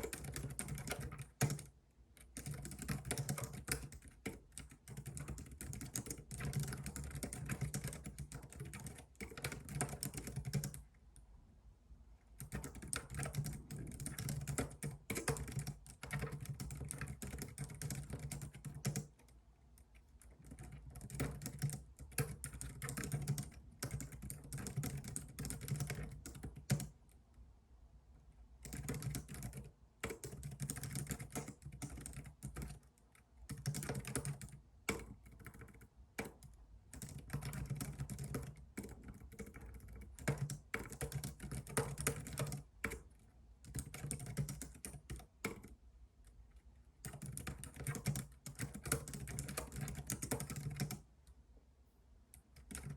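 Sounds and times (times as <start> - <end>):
typing on computer keyboard: 0.0 - 11.0, 12.4 - 27.1, 28.6 - 45.8, 47.0 - 51.1, 52.3 - 52.9.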